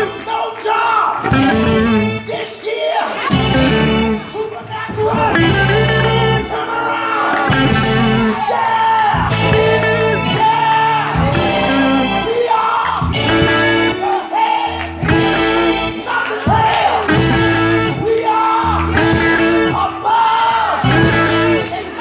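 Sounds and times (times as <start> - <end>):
person singing: 0.0 - 22.0
sustained keyboard chords: 1.2 - 2.5, 3.3 - 22.0.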